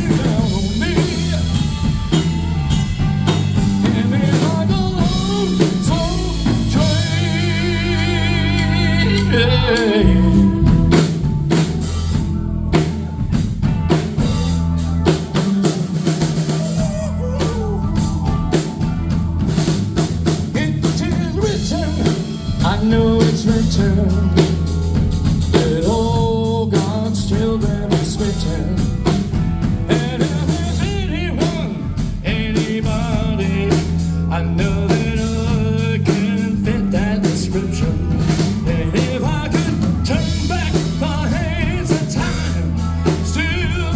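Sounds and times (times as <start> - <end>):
person singing: 0.0 - 2.7, 3.3 - 11.9, 13.9 - 43.9
band music: 0.0 - 43.9
drum kit beat: 0.0 - 43.9.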